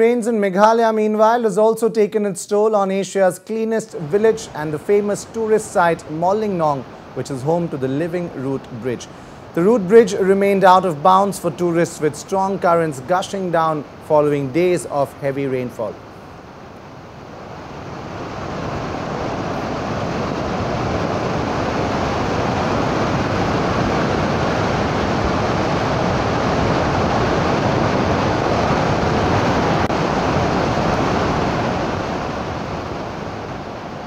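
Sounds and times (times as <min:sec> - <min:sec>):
turbulent stream water rushing: 0:03.9 - 0:34.0.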